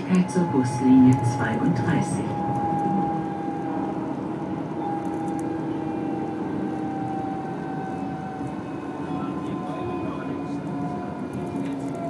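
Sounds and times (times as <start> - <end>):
tram drive whine: 0.0 - 12.0
tram rolling rumble: 0.0 - 12.0.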